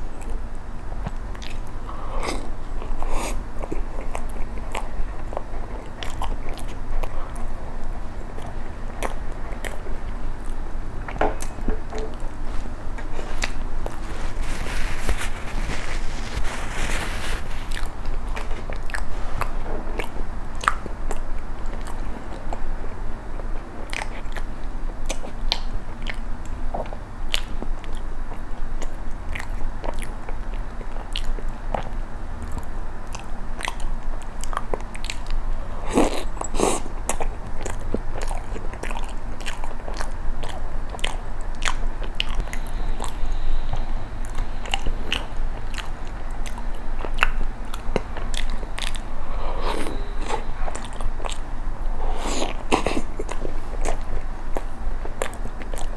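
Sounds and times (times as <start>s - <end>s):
close chewing with mouth clicks: 0.0s - 55.9s.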